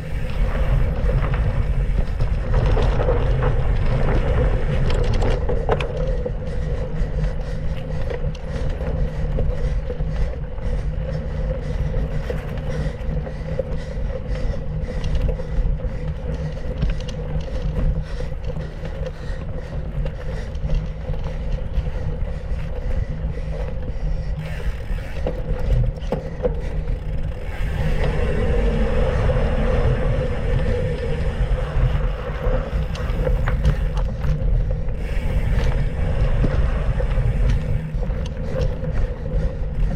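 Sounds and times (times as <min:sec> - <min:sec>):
bike rattling over bumps: 0:00.0 - 0:39.9
wind rumble on microphone: 0:00.0 - 0:39.9.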